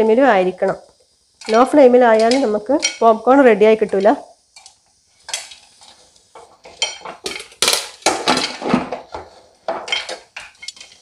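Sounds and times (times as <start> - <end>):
popcorn popping in metal pot: 0.0 - 11.0.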